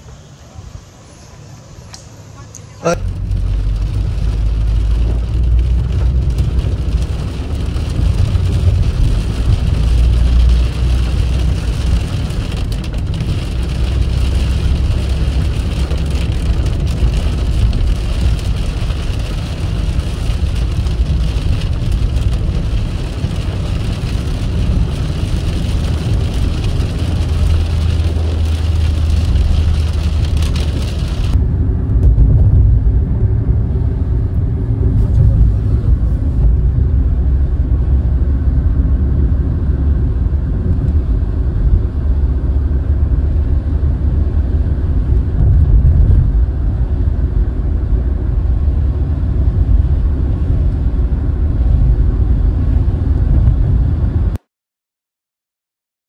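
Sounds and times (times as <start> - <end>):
car engine and road drone: 0.0 - 54.4
rain on car windscreen: 1.9 - 31.4, 32.0 - 54.4.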